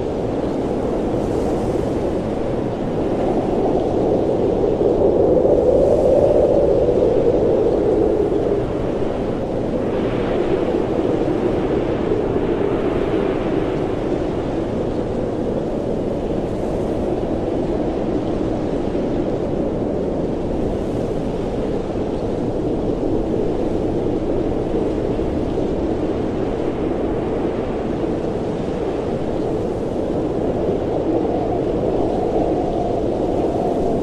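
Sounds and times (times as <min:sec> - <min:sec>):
blizzard wind blowing: 0:00.0 - 0:34.0.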